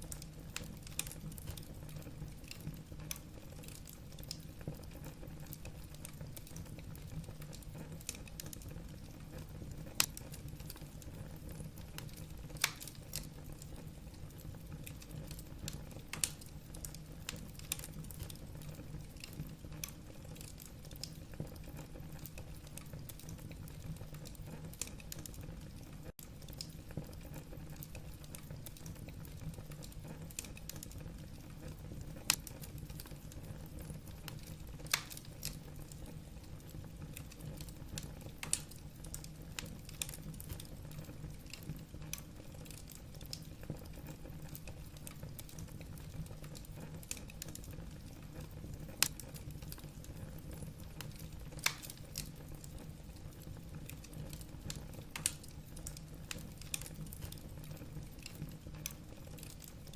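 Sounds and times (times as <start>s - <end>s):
burning logs crackling and popping: 0.0s - 59.9s
fire flames rumbling: 0.0s - 59.9s.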